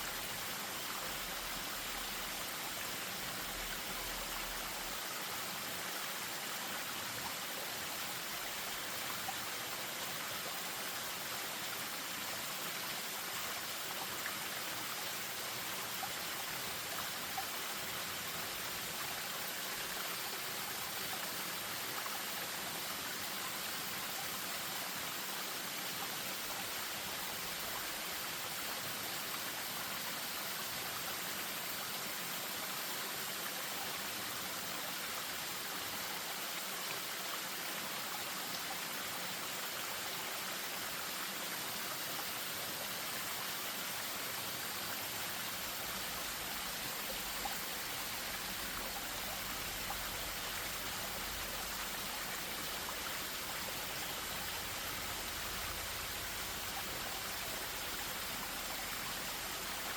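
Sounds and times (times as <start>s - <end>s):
stream over small waterfall: 0.0s - 59.9s.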